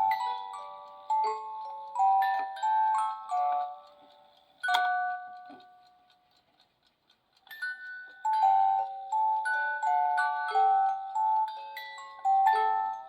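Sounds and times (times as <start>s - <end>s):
alarm clock bell-like melody: 0.0s - 6.3s, 7.3s - 13.0s.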